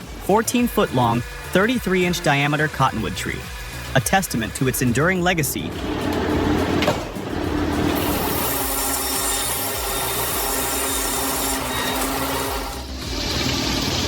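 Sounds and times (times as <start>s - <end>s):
circular saw blade humming: 0.0s - 14.0s
saw cutting through log hiss: 0.0s - 14.0s.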